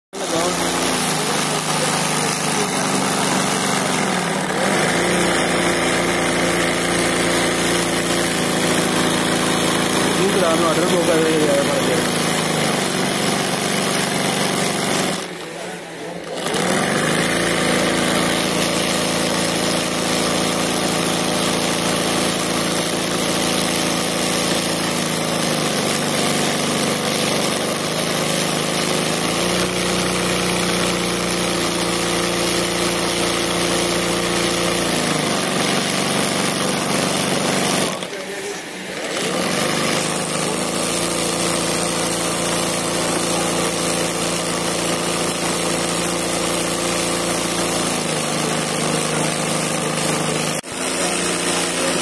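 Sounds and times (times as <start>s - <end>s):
embroidery machine stitching: 0.1s - 52.0s.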